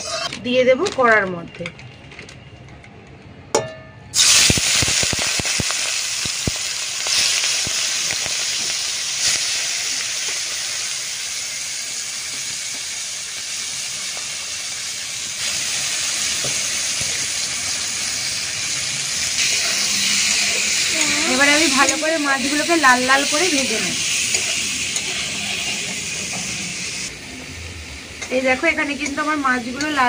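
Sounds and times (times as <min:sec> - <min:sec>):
prawns sizzling in hot oil: 0:04.2 - 0:30.0.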